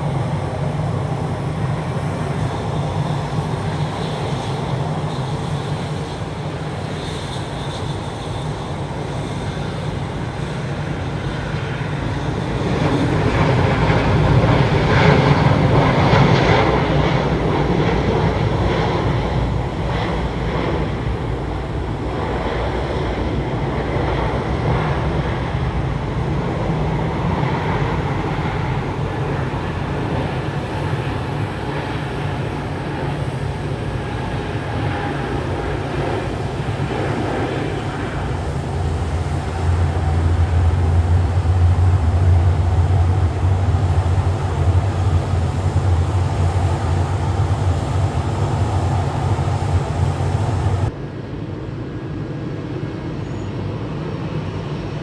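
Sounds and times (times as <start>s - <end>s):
airliner jet engines rumbling: 0.0s - 55.0s.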